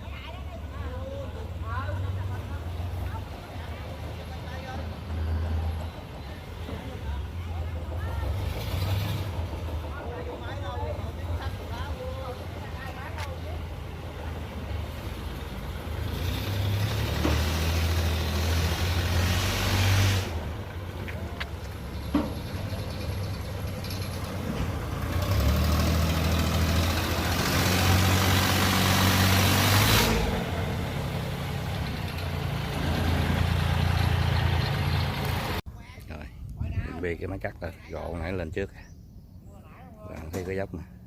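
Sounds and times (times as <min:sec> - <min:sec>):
heavy engine humming: 0:00.0 - 0:35.6.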